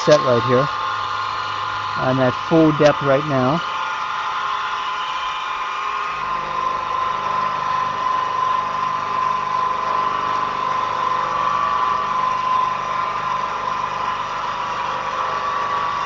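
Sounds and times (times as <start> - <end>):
milling machine cutting metal: 0.0 - 16.0.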